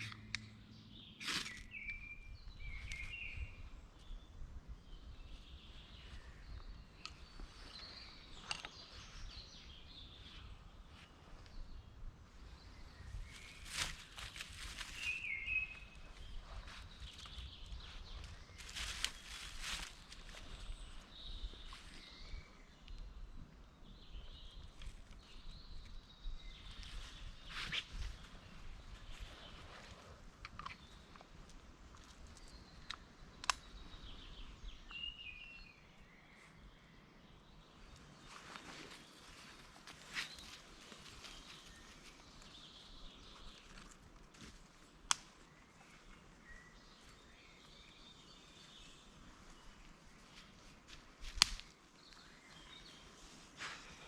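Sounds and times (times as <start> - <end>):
faint birds calling: 0.0 - 54.0.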